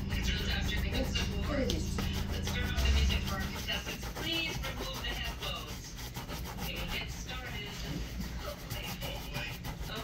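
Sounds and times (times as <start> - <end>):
rubbing strokes on leather shoe: 0.2 - 10.0.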